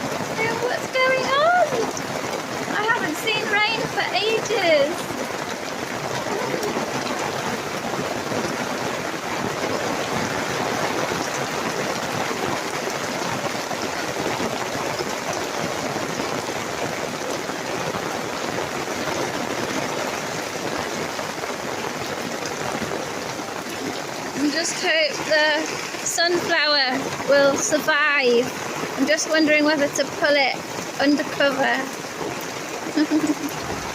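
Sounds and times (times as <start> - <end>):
heavy rain on a canopy: 0.0 - 33.9.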